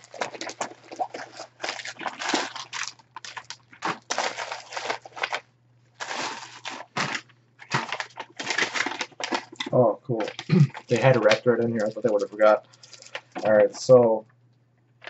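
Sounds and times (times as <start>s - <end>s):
packaging crinkling and rustling: 0.0s - 13.9s.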